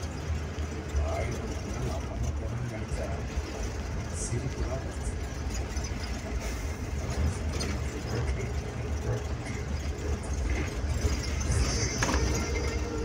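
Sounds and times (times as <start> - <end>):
bus diesel engine running: 0.0 - 13.0
road and tyre noise: 0.0 - 13.0.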